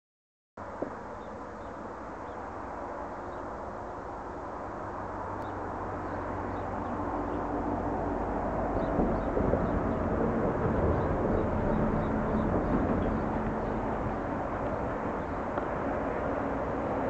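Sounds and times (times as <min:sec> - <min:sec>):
electric locomotive low rumble: 0:00.6 - 0:17.0.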